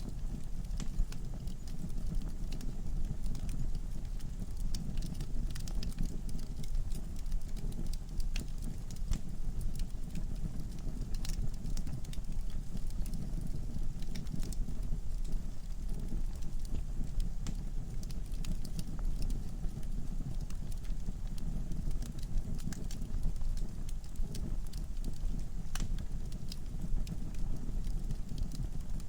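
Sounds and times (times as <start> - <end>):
fire flames rumbling: 0.0 - 29.0
logs crackling and popping: 0.0 - 29.0.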